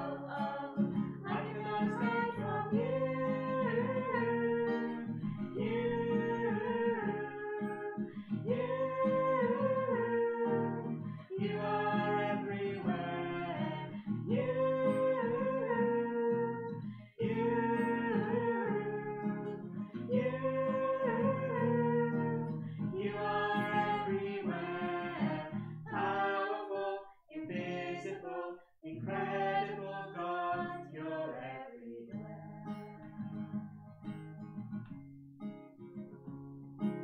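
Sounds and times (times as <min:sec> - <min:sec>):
person singing: 0:00.0 - 0:33.6
acoustic guitar: 0:00.0 - 0:37.0.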